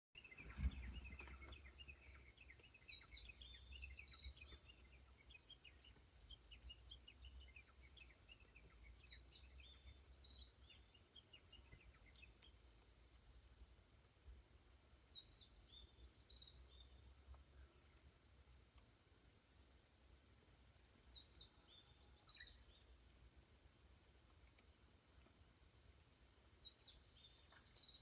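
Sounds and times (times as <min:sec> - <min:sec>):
songbirds chirping: 0:00.2 - 0:28.0.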